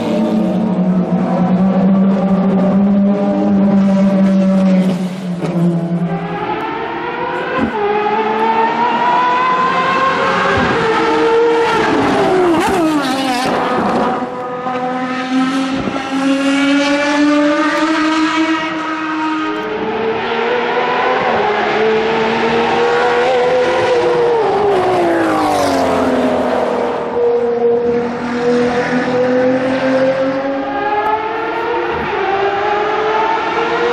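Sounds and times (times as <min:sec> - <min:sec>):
car engine revving: 0:00.0 - 0:33.9
car passing at speed: 0:00.0 - 0:33.9.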